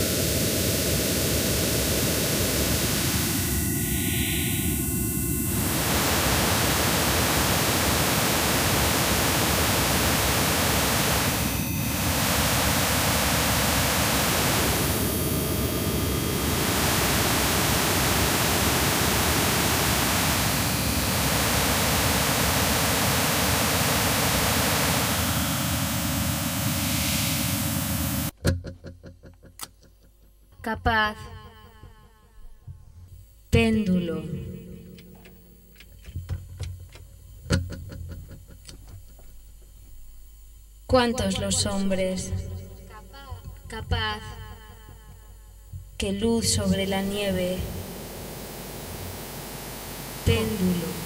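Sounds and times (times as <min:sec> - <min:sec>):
harsh static noise music: 0:00.0 - 0:28.4, 0:33.0 - 0:51.0.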